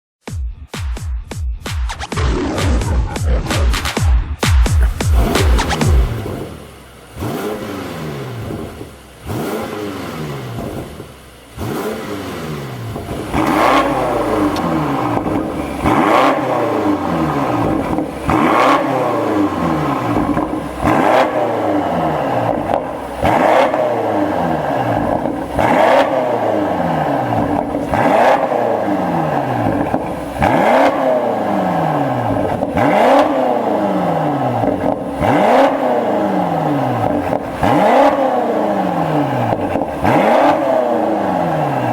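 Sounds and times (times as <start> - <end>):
car engine revving: 1.9 - 41.9.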